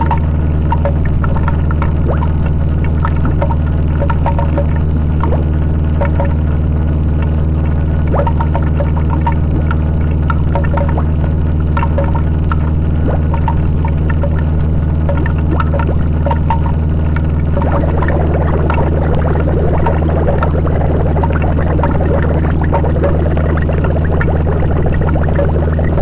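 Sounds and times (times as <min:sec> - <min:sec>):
clicks and crackle: 0:00.0 - 0:06.5, 0:07.1 - 0:26.0.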